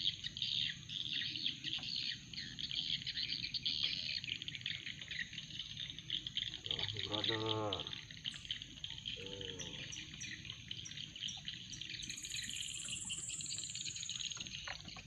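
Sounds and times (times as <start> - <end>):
bird chirping: 0.0 - 15.0
insects chorus: 0.0 - 15.0.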